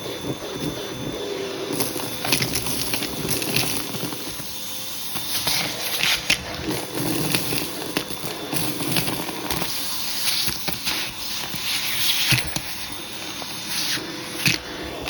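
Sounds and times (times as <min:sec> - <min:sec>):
crackles of powder sucked up: 0:00.0 - 0:15.0
hose swishing over rug: 0:00.0 - 0:15.0
vacuum cleaner running: 0:00.0 - 0:15.0.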